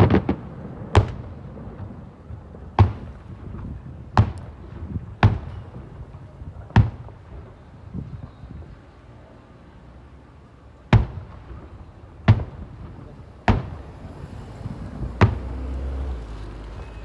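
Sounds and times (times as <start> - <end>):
fireworks bangs: 0.0 - 8.9, 10.8 - 17.0.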